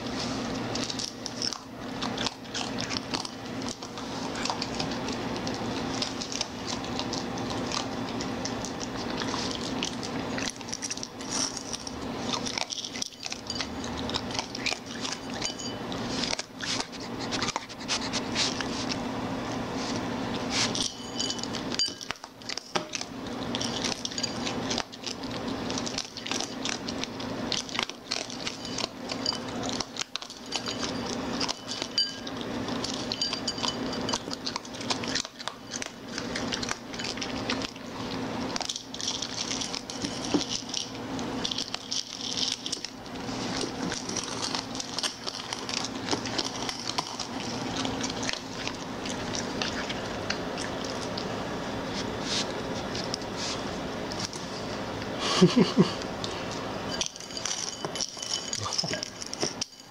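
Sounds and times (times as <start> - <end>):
paw pushing bowl: 0.0 - 54.9, 56.2 - 59.9
animal crunching dry kibble: 0.0 - 55.2, 56.2 - 59.9
steady low hum: 0.0 - 59.9.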